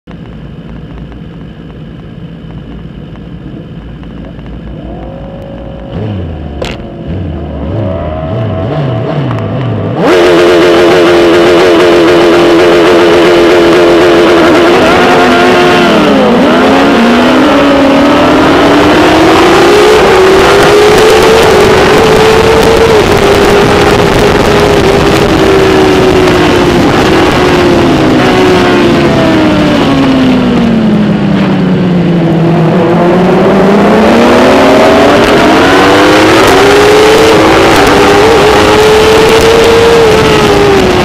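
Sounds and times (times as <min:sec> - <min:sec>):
motorcycle engine revving: 0:04.0 - 0:41.0.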